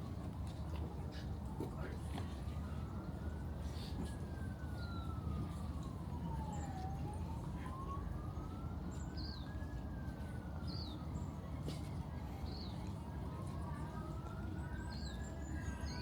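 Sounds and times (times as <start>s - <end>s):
siren slow wail: 2.3s - 12.3s, 13.0s - 16.0s.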